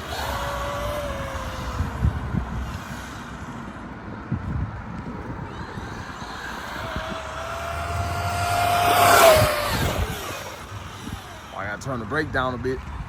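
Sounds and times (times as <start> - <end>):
toy truck electric motor whine: 0.0 - 13.0.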